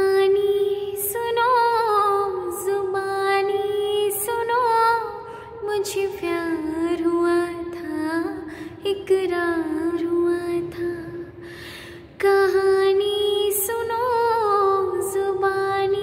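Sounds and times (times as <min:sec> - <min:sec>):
woman singing slow melody: 0:00.0 - 0:16.0.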